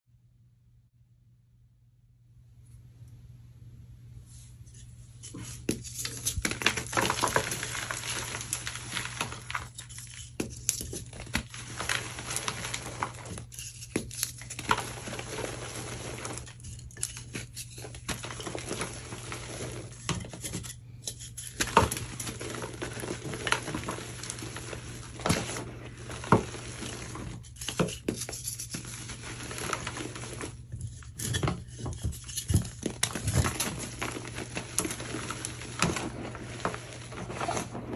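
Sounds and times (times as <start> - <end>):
hands crushing chalk blocks: 5.3 - 37.9.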